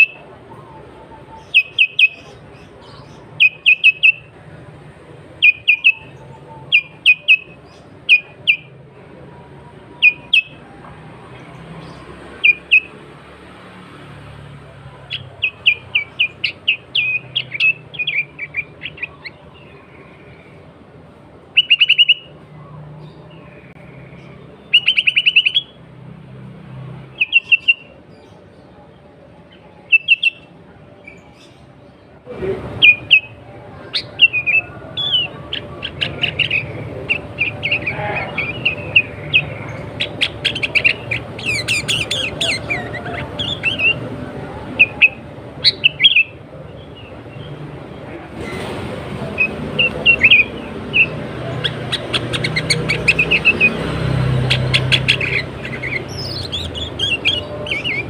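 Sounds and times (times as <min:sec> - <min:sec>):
bird chattering calls: 0:00.0 - 0:08.9, 0:09.7 - 0:13.1, 0:14.8 - 0:20.7, 0:21.4 - 0:25.8, 0:27.1 - 0:28.4, 0:29.5 - 0:31.6, 0:32.6 - 0:58.0.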